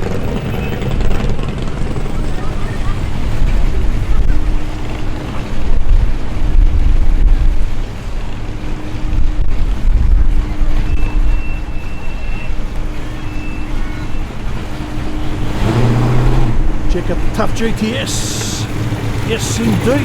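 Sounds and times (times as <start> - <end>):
performance car engines passing: 0.0 - 20.0.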